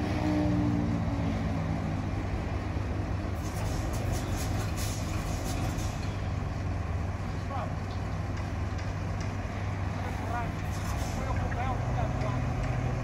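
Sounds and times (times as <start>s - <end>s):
locomotive diesel engine rumbling: 0.0s - 13.0s.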